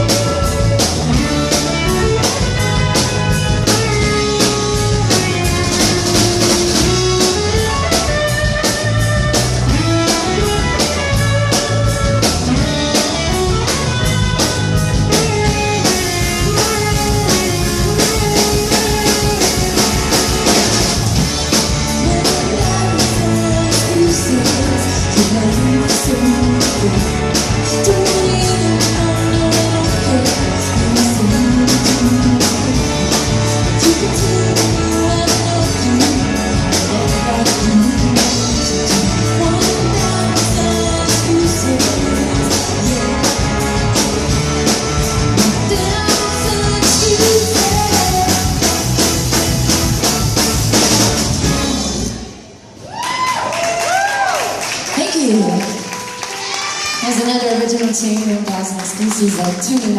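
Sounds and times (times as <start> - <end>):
blues-rock band music: 0.0 - 59.9.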